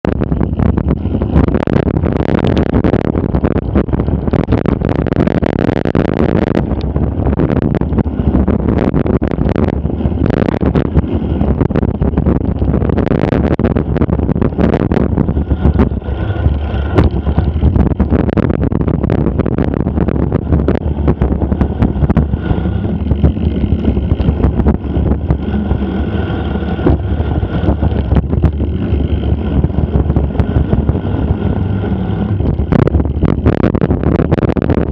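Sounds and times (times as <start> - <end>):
bike rattling and knocking: 0.0 - 34.9
wind buffeting microphone: 0.0 - 34.9.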